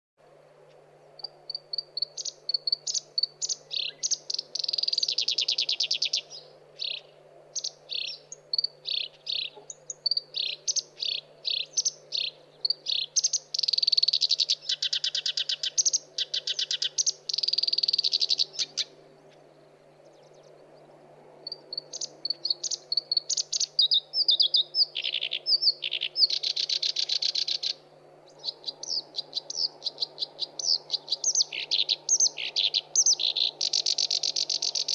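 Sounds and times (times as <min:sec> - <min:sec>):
reed warbler singing: 0:01.2 - 0:34.9.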